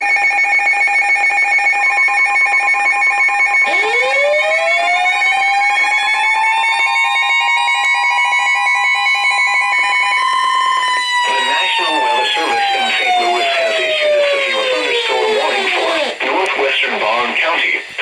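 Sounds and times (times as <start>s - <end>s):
electronic alarm tone pulsing: 0.0s - 16.3s
warning siren wailing: 0.0s - 16.3s.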